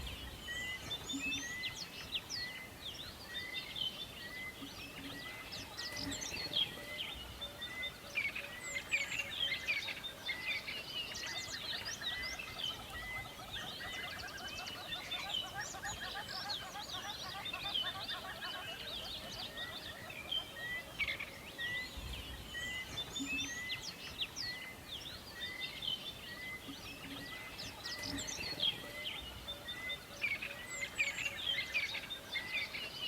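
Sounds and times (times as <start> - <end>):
wild birds chirping and trilling: 0.0 - 33.0.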